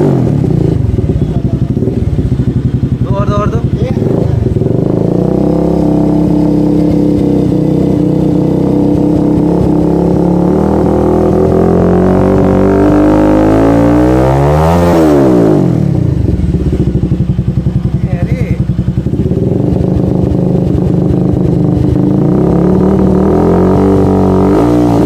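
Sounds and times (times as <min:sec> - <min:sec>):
motorcycle engine revving and idling: 0:00.0 - 0:25.0.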